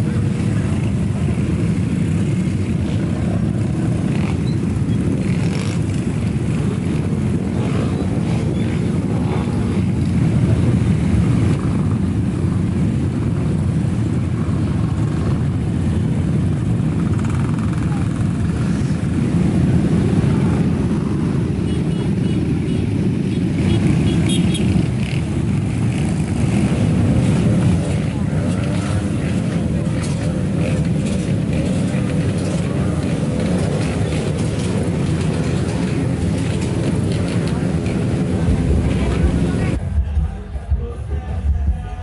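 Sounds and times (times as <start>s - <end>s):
motorcycles riding past: 0.0s - 39.9s.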